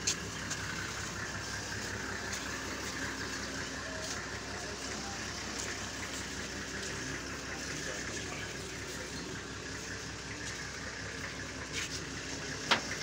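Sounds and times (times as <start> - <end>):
outdoor crowd murmur: 0.0 - 13.0.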